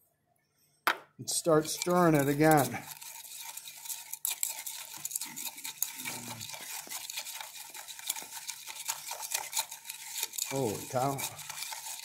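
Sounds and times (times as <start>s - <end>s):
glass rod scraping in glass beaker: 1.4s - 12.0s.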